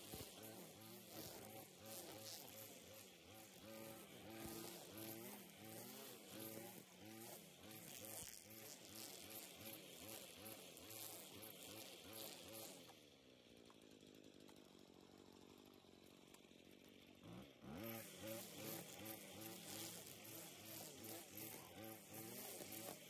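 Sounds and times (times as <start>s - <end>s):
string trimmer engine revving: 0.0s - 23.0s.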